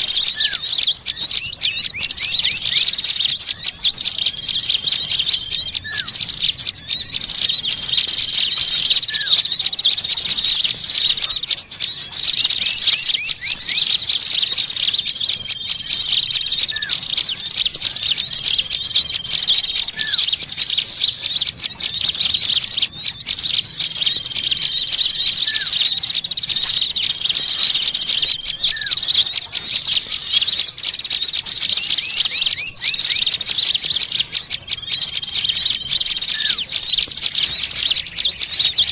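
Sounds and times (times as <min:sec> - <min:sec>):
bird lure whistle: 0:00.0 - 0:38.9
songbirds chirping chorus: 0:00.0 - 0:38.9.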